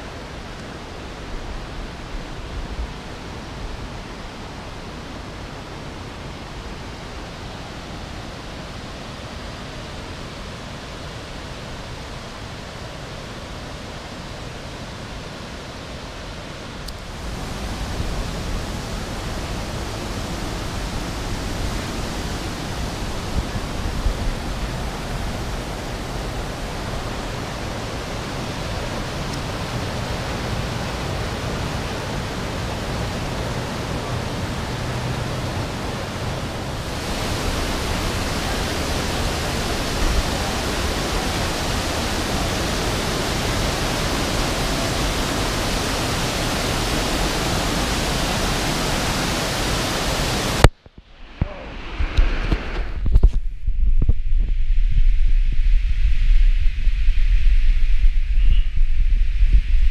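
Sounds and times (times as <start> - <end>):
water rushing through gorge: 0.0 - 50.7.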